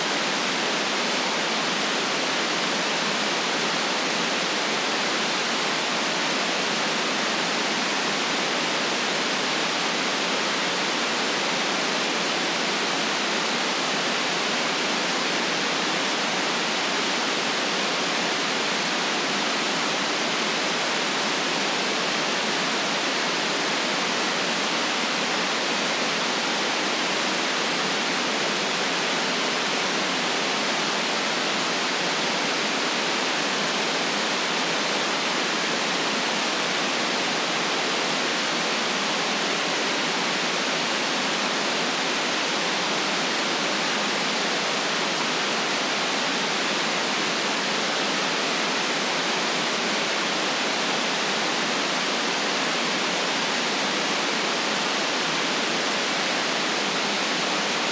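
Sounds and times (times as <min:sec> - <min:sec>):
steady white noise hiss: 0:00.0 - 0:57.9.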